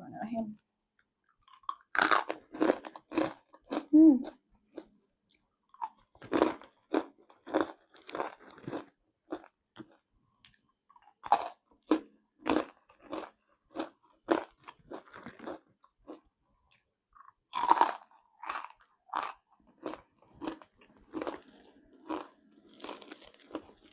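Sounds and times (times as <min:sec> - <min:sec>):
crunching and chewing crisps: 0:01.2 - 0:23.9.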